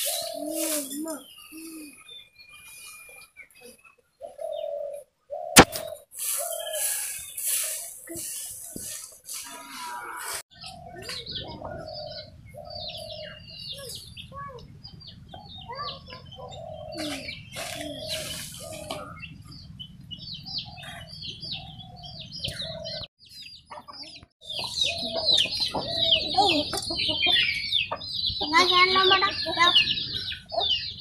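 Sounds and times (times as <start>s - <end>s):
chickens clucking: 0.0s - 2.1s, 3.4s - 23.1s, 23.7s - 31.0s
small birds chirping: 0.0s - 31.0s.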